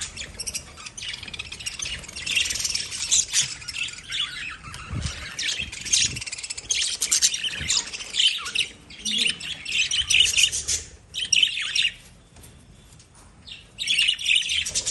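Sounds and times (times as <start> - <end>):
lovebirds chirping: 0.0 - 14.9.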